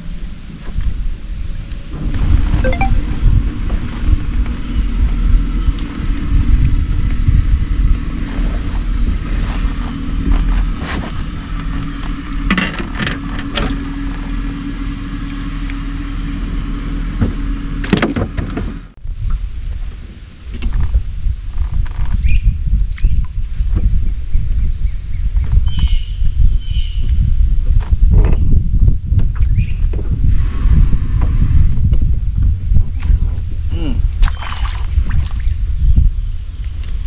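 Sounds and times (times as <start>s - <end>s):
low rumble: 0.0s - 17.8s, 18.9s - 37.0s.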